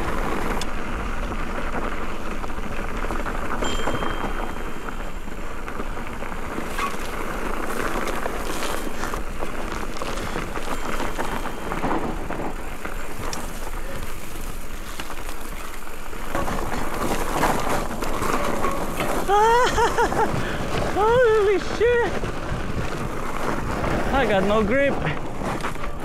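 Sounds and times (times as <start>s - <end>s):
bike knocking and rattling: 0.0s - 26.0s
tyres crunching on loose gravel: 0.0s - 26.0s.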